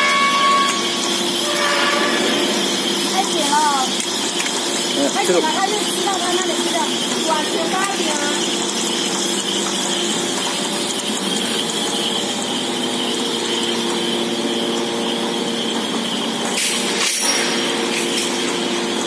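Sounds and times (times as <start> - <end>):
low mechanical hum: 0.0 - 19.0
machine high whine: 0.0 - 19.0.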